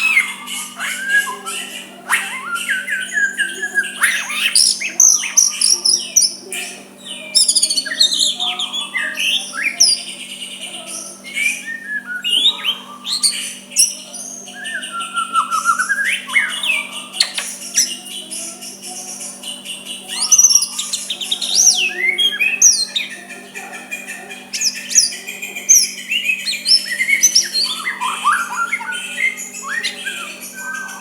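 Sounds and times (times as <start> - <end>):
faint steady hum: 0.0 - 31.0
songbird whistling song: 0.0 - 31.0.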